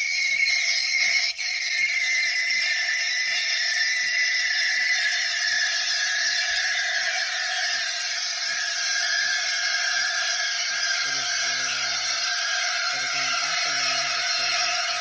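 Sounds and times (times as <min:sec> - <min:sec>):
steam wand hissing: 0:00.0 - 0:15.0.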